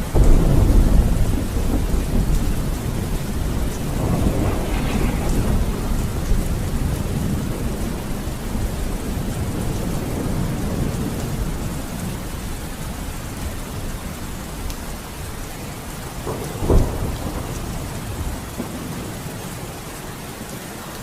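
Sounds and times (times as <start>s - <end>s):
low rumble of thunder: 0.0s - 19.9s
steady rain: 0.0s - 21.0s.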